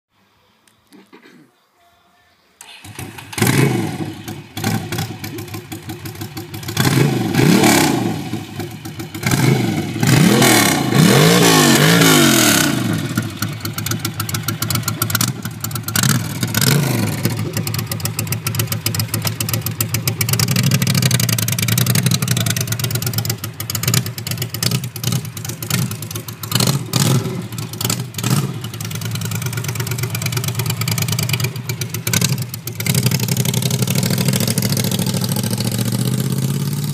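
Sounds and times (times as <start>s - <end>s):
motorcycle engine revving: 2.6s - 36.9s
motorcycle pulling away: 2.6s - 36.9s.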